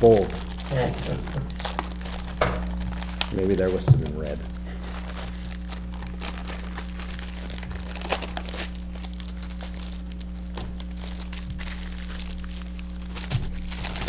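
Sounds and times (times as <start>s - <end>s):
plastic wrap crinkling: 0.0s - 14.0s.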